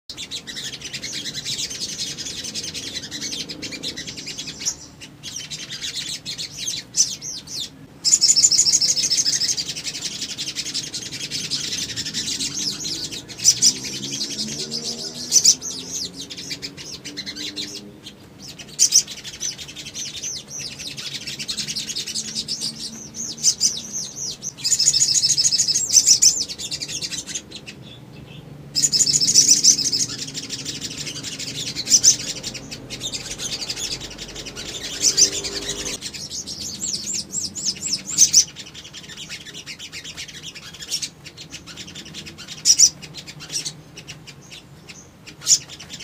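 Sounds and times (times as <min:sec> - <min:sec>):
birds chirping and twittering: 0:00.0 - 0:46.0.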